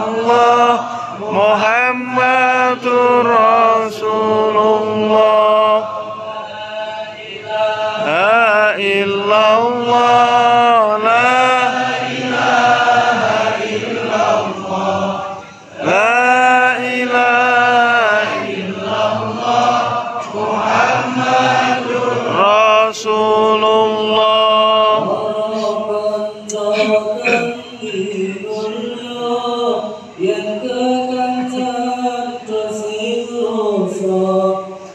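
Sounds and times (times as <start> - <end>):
men chanting: 0.0 - 34.8.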